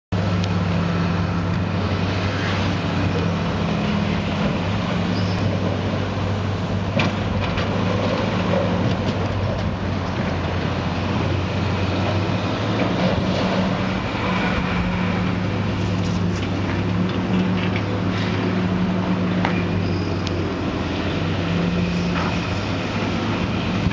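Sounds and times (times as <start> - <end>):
machinery engine drone: 0.1 - 23.9.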